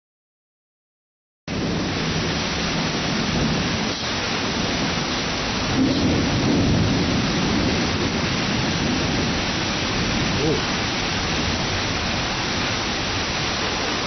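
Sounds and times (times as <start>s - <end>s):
heavy rain hissing: 1.5s - 14.0s
thunder rumbling: 1.5s - 14.0s.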